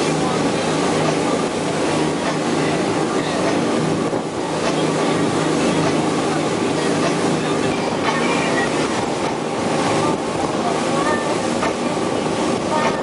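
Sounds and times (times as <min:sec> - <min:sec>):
motorboat engine drone: 0:00.0 - 0:13.0
water rushing along hull: 0:00.0 - 0:13.0.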